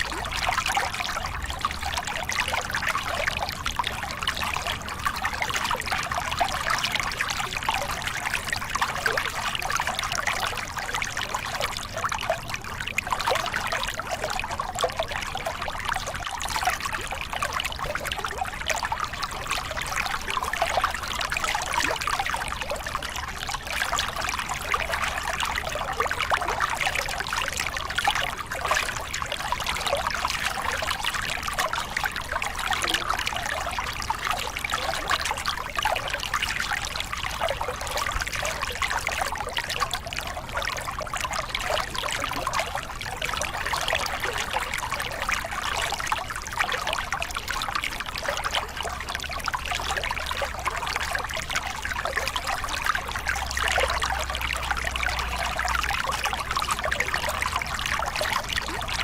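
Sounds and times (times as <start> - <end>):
water splashing over rocks: 0.0 - 59.0.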